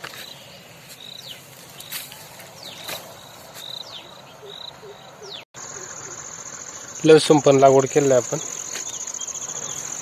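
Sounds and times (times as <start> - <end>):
insects chirping: 0.0 - 10.0
high falling calls: 0.2 - 10.0.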